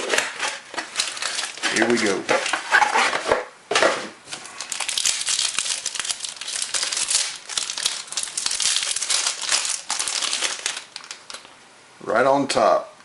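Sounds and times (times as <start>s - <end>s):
plastic wrapping crinkling: 0.0s - 3.2s, 4.2s - 11.6s.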